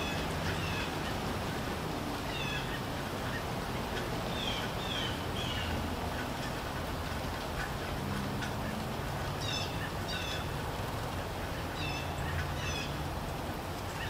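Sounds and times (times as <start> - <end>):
bird calls: 0.0 - 10.7, 11.4 - 13.0, 13.8 - 14.0
steady rain falling: 0.0 - 14.0.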